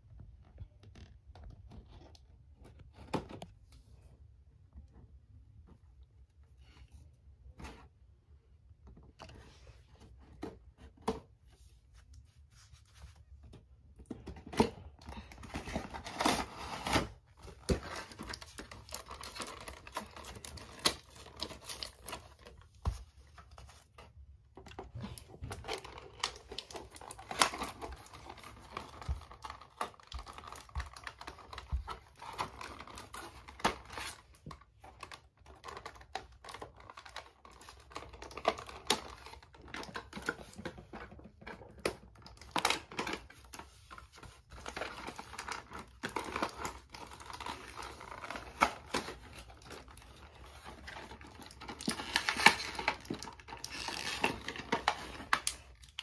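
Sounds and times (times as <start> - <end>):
cardboard crinkling: 9.0 - 56.0.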